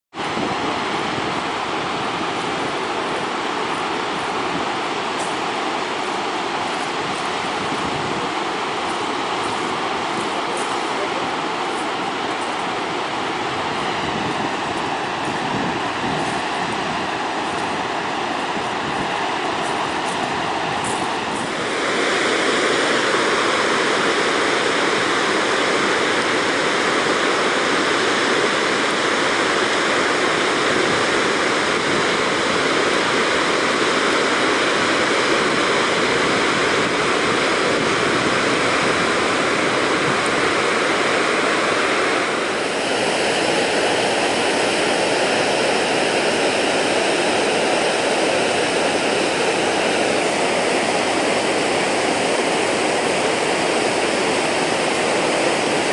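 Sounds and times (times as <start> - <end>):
waterfall roaring: 0.1 - 55.9.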